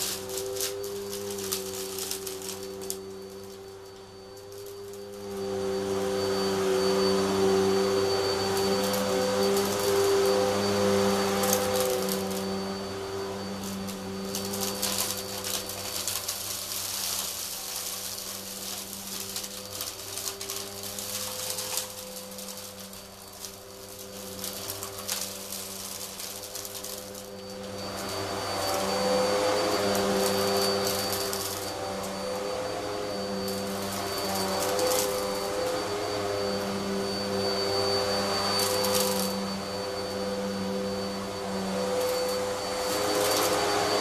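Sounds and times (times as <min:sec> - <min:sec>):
grit crackling into vacuum: 0:00.0 - 0:44.0
vacuum cleaner motor whining: 0:00.0 - 0:44.0.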